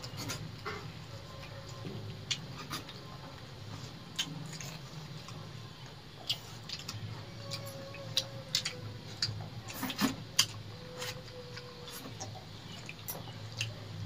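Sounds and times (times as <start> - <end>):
people eating with hands: 0.0 - 14.0.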